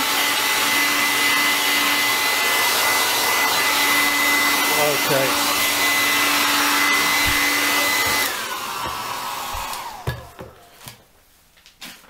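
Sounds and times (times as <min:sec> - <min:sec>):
hair dryer blowing: 0:00.0 - 0:11.1.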